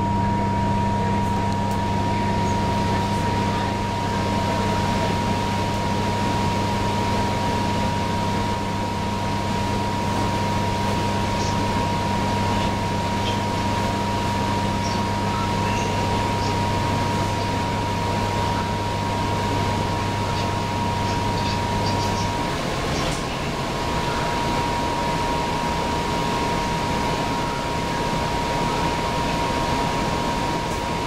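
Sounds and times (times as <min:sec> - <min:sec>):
bus engine humming: 0:00.0 - 0:31.0.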